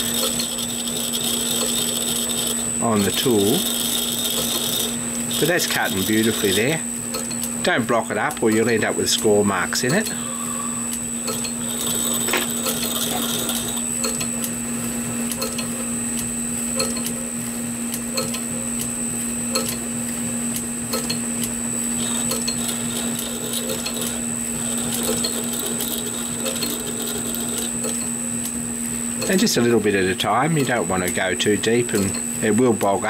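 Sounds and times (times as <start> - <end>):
lathe humming and whining: 0.0 - 33.0.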